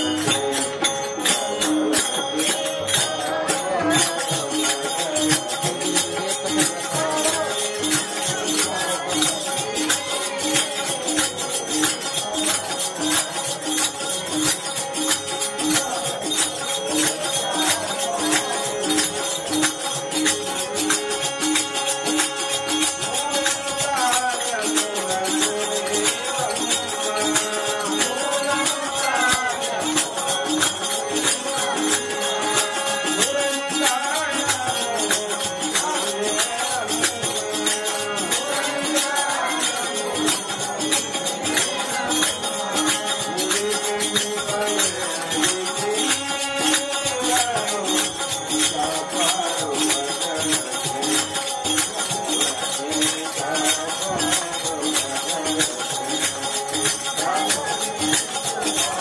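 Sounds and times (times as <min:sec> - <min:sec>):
harmonium sustained notes: 0:00.0 - 0:59.0
jingling hand percussion: 0:00.0 - 0:59.0.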